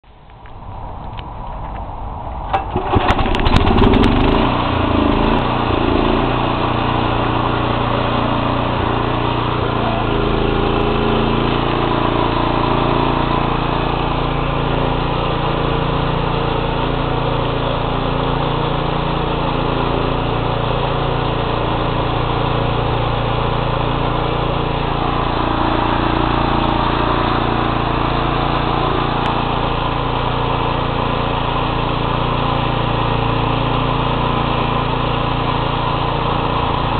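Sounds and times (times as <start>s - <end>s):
walking tractor engine running: 0.0s - 36.9s.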